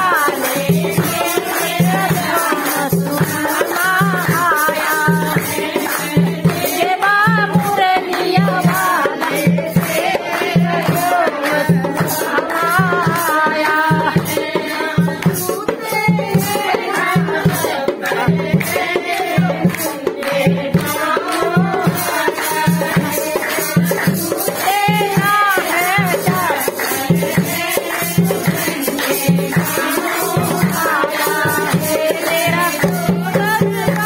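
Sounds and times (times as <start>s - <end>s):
devotional singing: 0.0s - 34.0s
hand drum beat: 0.0s - 34.0s
jingling percussion: 0.0s - 34.0s.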